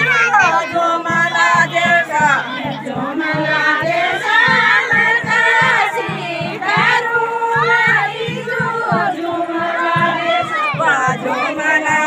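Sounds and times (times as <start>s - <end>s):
steady low beat: 0.0s - 12.0s
women singing folk song: 0.0s - 12.0s.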